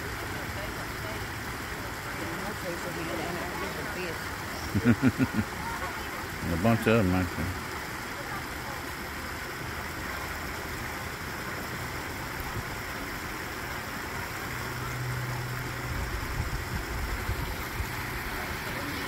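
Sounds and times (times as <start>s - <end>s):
hiss-like outdoor wash: 0.0s - 19.0s.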